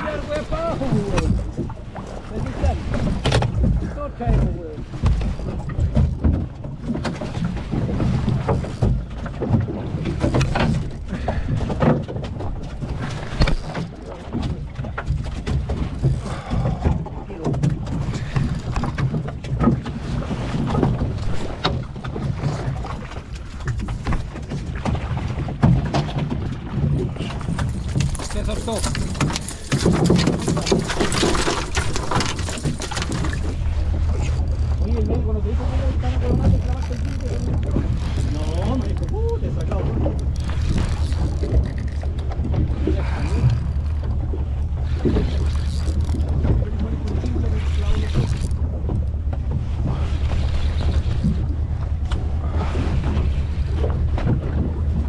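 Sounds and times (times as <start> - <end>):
boat motor running: 0.0 - 55.0
rod and reel knocks: 0.9 - 35.3, 36.1 - 52.3.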